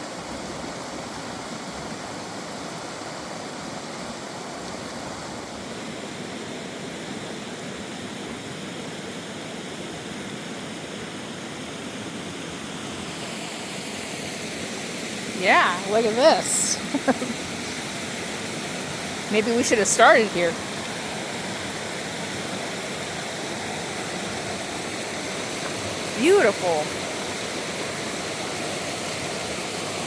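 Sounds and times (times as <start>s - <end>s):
falling water roar: 0.0s - 30.0s.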